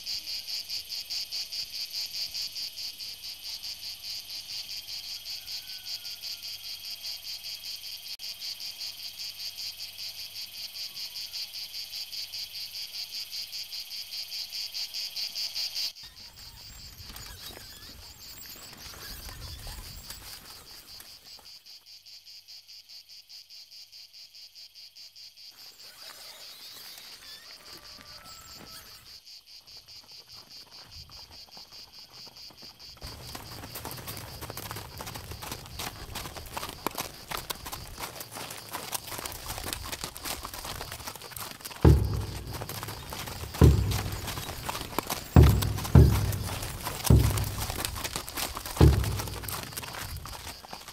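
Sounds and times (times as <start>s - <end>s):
insect chorus shrilling: 0.0s - 21.9s, 25.3s - 50.9s.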